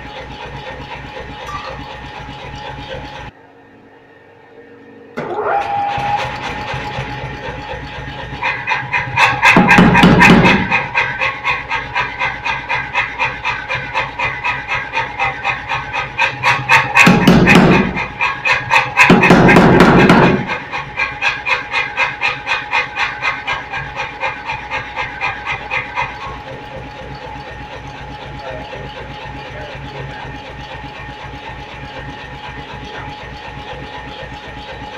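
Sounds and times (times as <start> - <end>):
power hammer striking hot metal: 0.0 - 3.3, 6.0 - 34.9
hammer motor hum: 0.0 - 3.4, 5.2 - 34.9.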